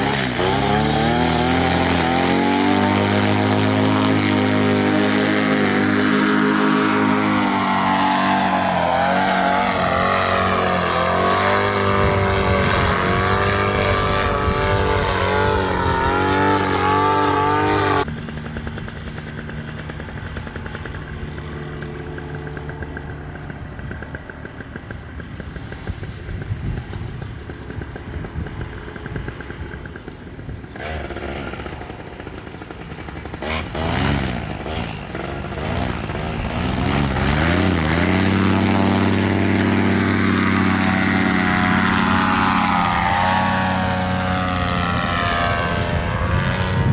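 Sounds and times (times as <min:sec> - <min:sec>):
paramotor engine and propeller: 0:00.0 - 0:46.9.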